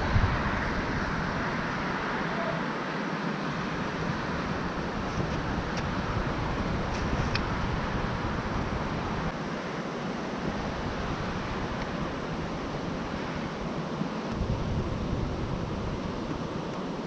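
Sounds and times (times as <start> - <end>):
road traffic: 0.0 - 17.0
surf hissing: 0.0 - 17.0
wind buffeting microphone: 0.0 - 17.0.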